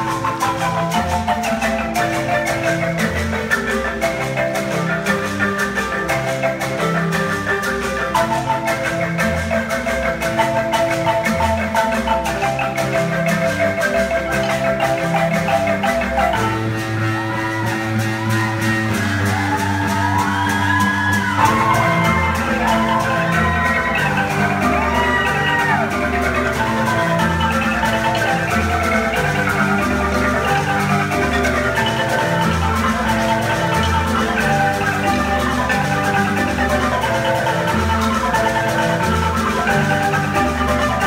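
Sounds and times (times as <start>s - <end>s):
marimba ensemble playing: 0.0s - 41.0s.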